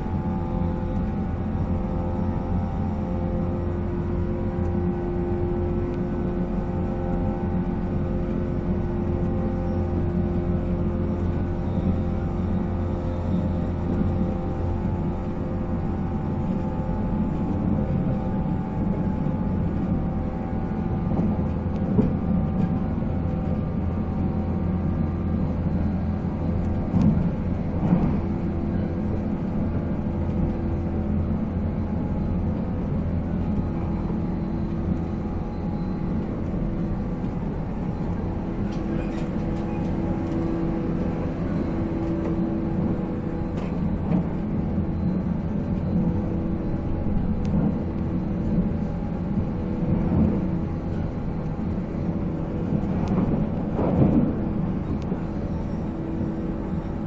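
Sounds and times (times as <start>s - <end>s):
electric train motor whine: 0.0s - 57.0s
wheels rumbling on rail: 0.0s - 57.0s.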